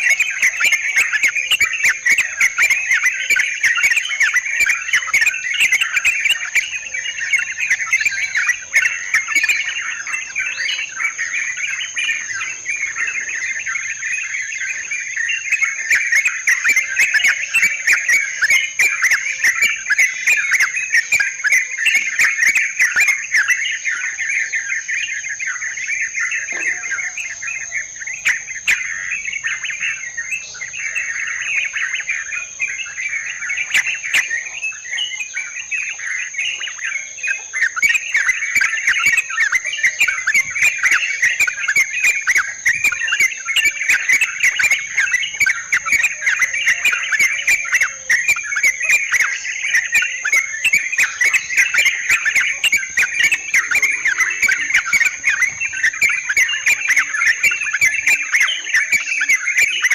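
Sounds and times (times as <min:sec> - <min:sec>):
birds chattering chorus: 0:00.0 - 0:59.9.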